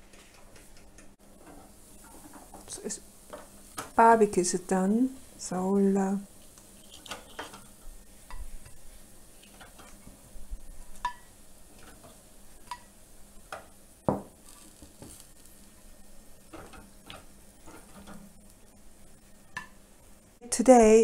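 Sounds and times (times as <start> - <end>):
faint sizzle: 0.0 - 21.0.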